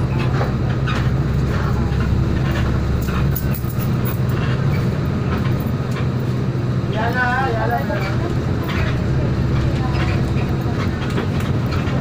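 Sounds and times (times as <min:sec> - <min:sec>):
low engine drone: 0:00.0 - 0:12.0
road noise: 0:00.0 - 0:12.0.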